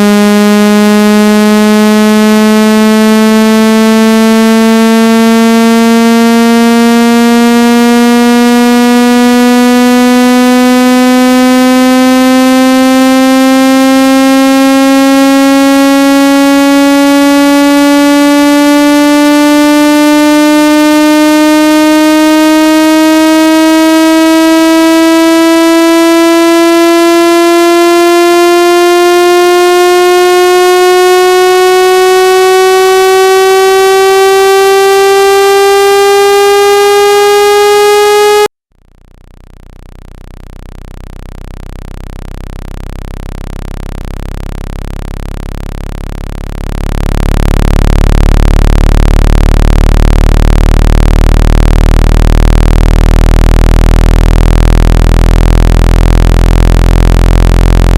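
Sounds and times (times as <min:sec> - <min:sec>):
loud rising pitched tone: 0:00.0 - 0:38.5, 0:39.2 - 0:57.9
low buzz: 0:00.0 - 0:57.9.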